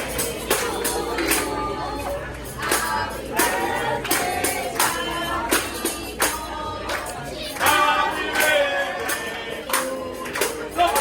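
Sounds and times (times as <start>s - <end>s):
sharp percussion beat: 0.0s - 11.0s.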